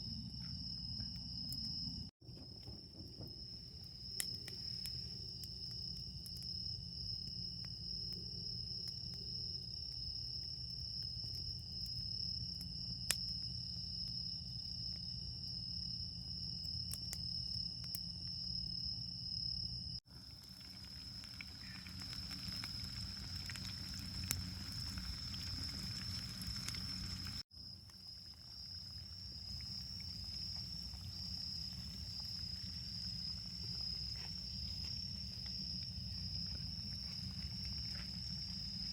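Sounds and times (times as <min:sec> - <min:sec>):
crickets trilling: 0:00.0 - 0:38.9
campfire crackling and popping: 0:02.6 - 0:18.1, 0:20.1 - 0:38.9.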